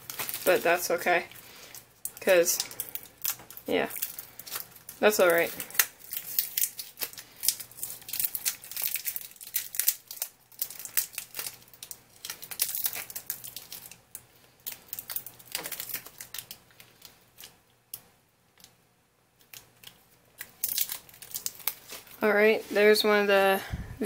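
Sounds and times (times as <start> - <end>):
packaging crinkling and rustling: 0.0 - 17.6, 19.4 - 23.0.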